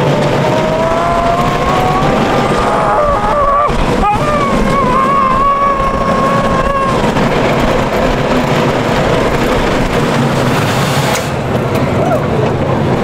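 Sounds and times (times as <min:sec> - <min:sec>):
roller coaster rushing on track: 0:00.0 - 0:13.0.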